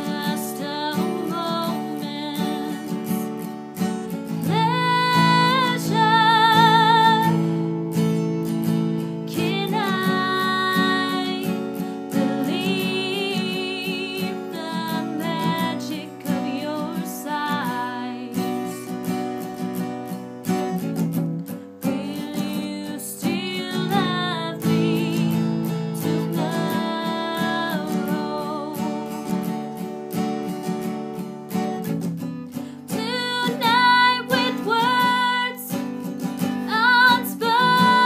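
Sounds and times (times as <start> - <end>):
woman singing: 0.0 - 7.8, 9.0 - 19.2, 21.8 - 30.4, 32.6 - 38.0
strummed acoustic guitar: 0.0 - 38.0.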